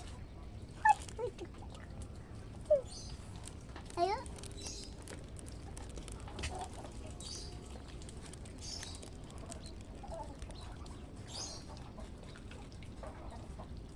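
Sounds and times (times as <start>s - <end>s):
low steady background hum: 0.0s - 13.9s.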